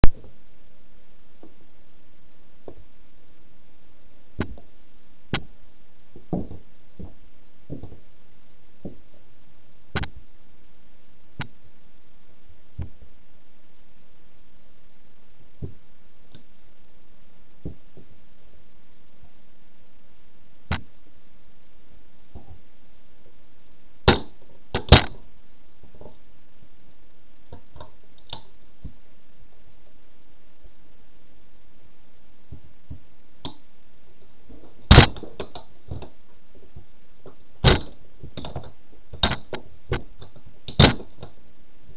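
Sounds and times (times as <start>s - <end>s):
steady hiss: 0.0s - 41.9s.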